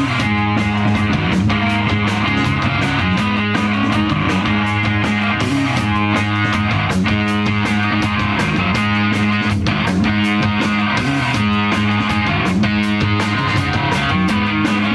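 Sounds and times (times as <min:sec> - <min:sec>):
drum kit beat: 0:00.0 - 0:14.9
electric bass: 0:00.0 - 0:14.9
electric guitar: 0:00.0 - 0:14.9.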